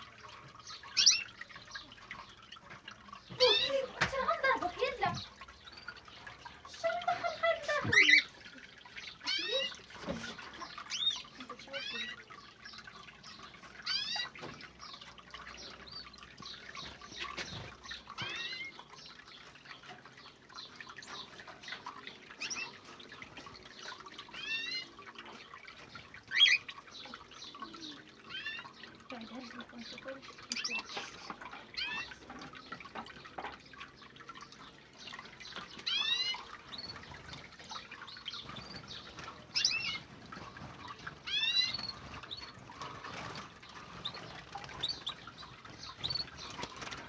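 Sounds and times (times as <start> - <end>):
small birds calling: 0.0 - 47.0
water fountain trickling: 0.0 - 47.0.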